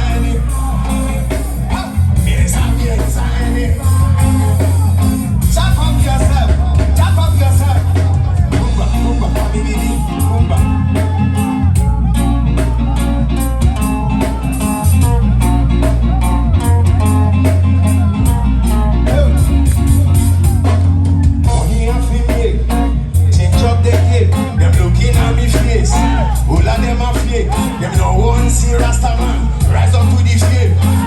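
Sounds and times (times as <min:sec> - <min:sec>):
person singing: 0:00.0 - 0:31.0
reggae music with heavy bass: 0:00.0 - 0:31.0.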